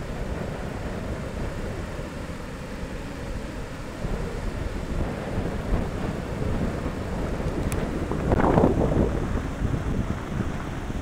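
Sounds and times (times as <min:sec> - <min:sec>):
ocean surf breaking on beach: 0:00.0 - 0:11.0
wind buffeting microphone: 0:00.0 - 0:11.0.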